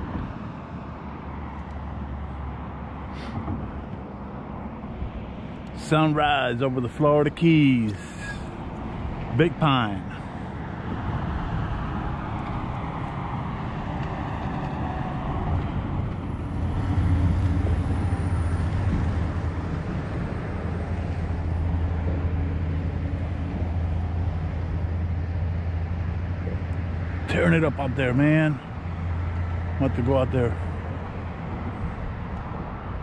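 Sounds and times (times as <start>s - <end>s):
passing vehicles rumbling: 0.0s - 33.0s.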